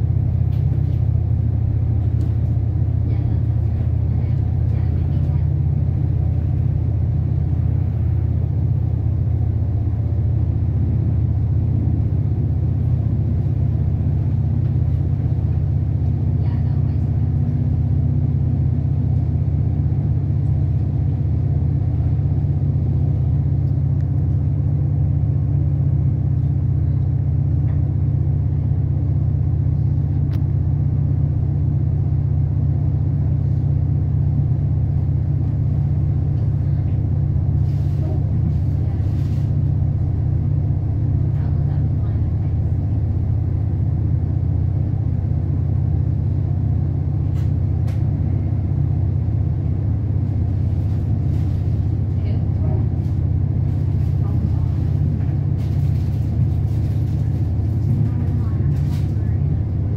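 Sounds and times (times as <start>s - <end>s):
passenger train rumble from inside: 0.0s - 59.9s.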